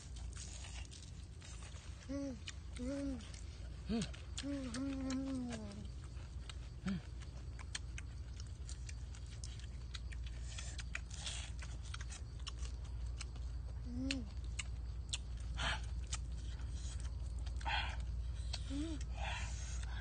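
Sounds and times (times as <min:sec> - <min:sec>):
chewing and lip-smacking: 0:00.0 - 0:20.0
steady low hum: 0:00.0 - 0:20.0.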